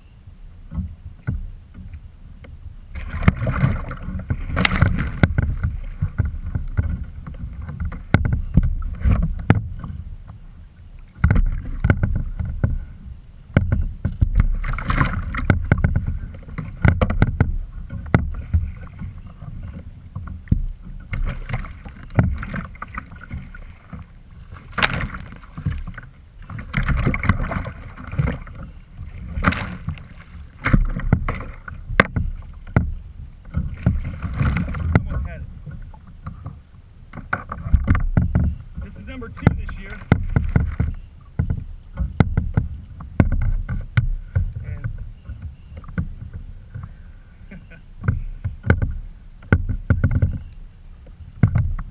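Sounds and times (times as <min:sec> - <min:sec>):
water splashing around a kayak: 0:00.0 - 0:51.9
knocks against kayak hull: 0:03.0 - 0:10.4, 0:11.1 - 0:12.9, 0:13.5 - 0:24.0, 0:24.6 - 0:47.0, 0:48.0 - 0:50.5, 0:51.4 - 0:51.9.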